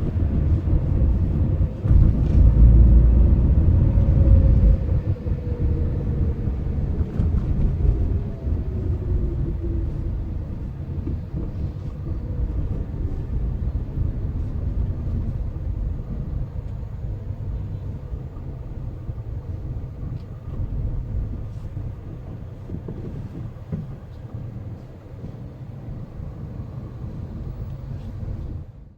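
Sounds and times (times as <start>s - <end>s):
road and tyre noise: 0.0s - 28.9s.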